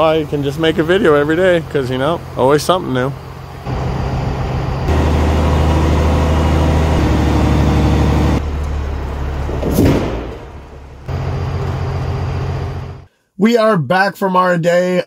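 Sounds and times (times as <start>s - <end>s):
truck diesel engine running: 0.0s - 13.1s.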